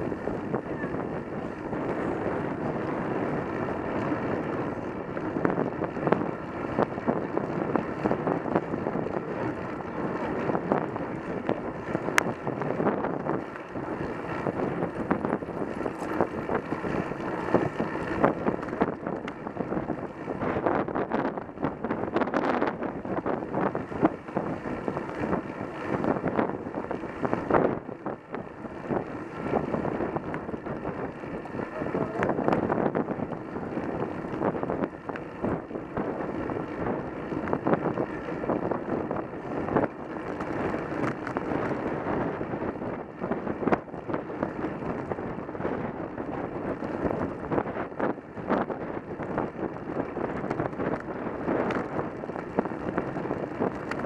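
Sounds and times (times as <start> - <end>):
bicycle tyre road noise: 0.0 - 54.0
wind buffeting microphone: 0.0 - 54.0.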